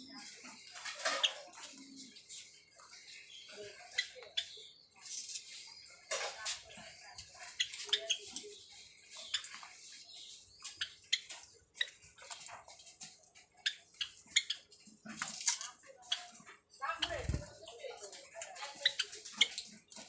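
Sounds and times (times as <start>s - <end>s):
sparrows ticking and chipping: 0.0s - 20.0s.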